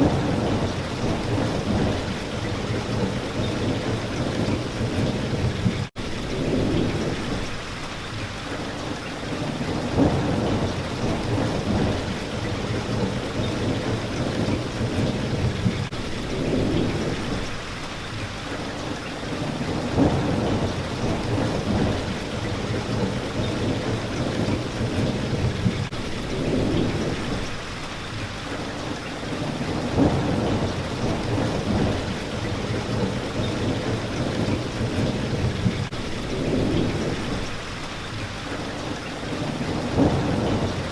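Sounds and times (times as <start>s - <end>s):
thunder rumbling: 0.0s - 7.7s, 9.3s - 17.7s, 19.3s - 27.8s, 29.2s - 37.8s, 39.2s - 40.9s
rain hitting a window: 0.0s - 40.9s.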